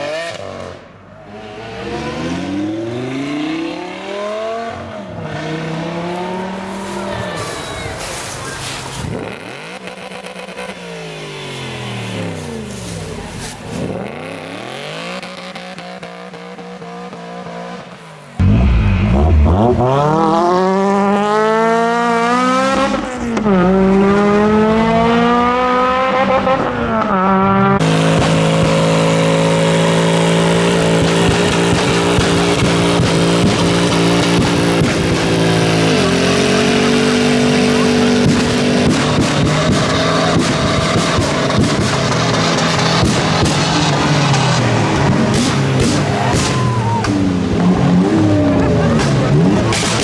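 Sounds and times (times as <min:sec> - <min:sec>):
loud engine accelerating hard: 0:00.0 - 0:07.0, 0:09.0 - 0:13.2, 0:13.8 - 0:50.0
sports car engines revving: 0:00.0 - 0:07.1, 0:08.0 - 0:50.0.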